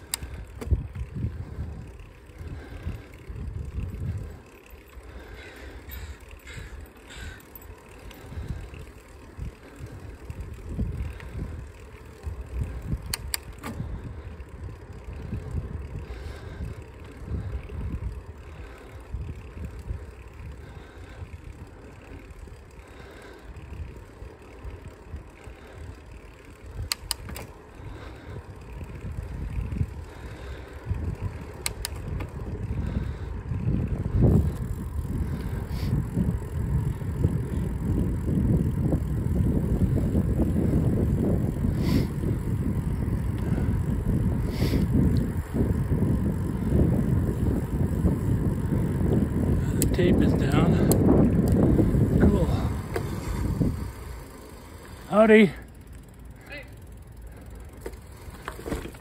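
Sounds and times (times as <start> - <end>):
wind buffeting microphone: 0.0 - 22.9, 23.5 - 54.6.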